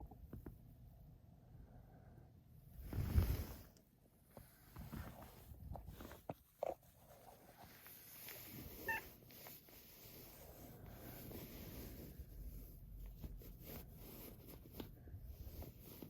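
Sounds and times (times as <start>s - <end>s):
faint rustling: 2.8s - 16.0s.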